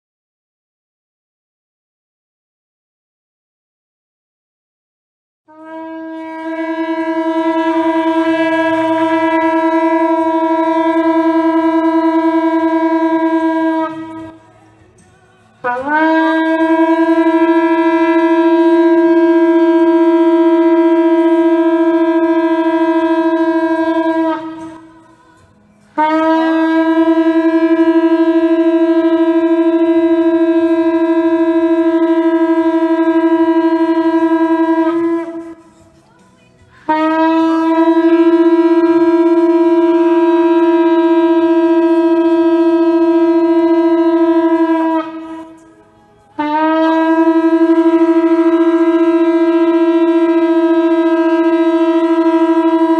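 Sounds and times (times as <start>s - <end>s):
shofar blasts: 5.5s - 14.6s, 15.6s - 25.1s, 25.9s - 35.8s, 36.9s - 45.8s, 46.4s - 52.9s.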